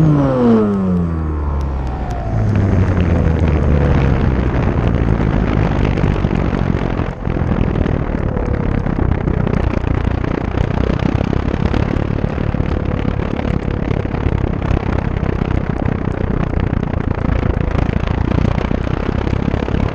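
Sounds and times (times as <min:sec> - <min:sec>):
electric motor and propeller: 0:00.0 - 0:19.9
wind rushing over camera: 0:00.0 - 0:19.9.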